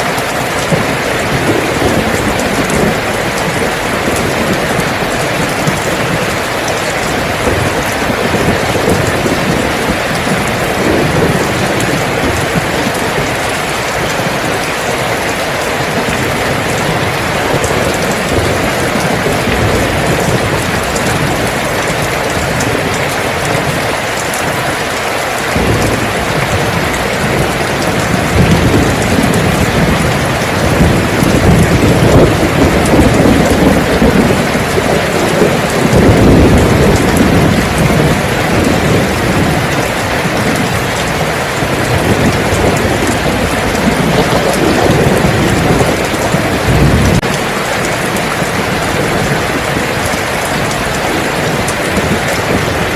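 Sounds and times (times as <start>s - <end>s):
heavy rain pouring: 0.0s - 52.9s
low rumble of thunder: 0.2s - 52.9s.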